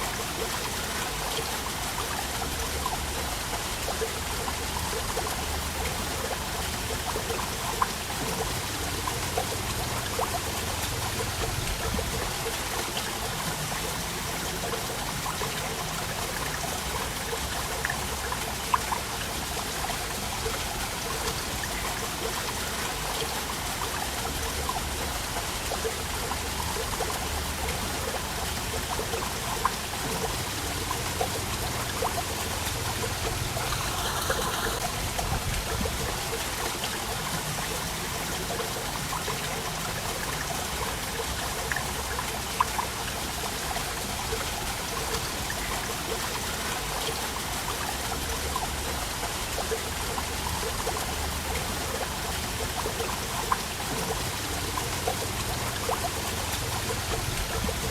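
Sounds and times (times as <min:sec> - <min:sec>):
waterfall splashing: 0:00.0 - 0:48.2
sharp splashes and drips: 0:00.0 - 0:57.9
water trickling: 0:00.0 - 0:57.9.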